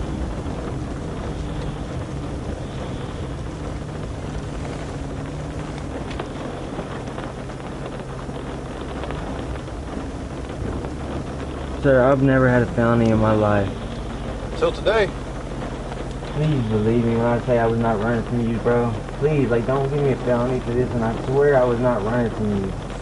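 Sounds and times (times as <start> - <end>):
rushing noise: 0.0 - 23.0
vehicle engine humming: 0.0 - 23.0.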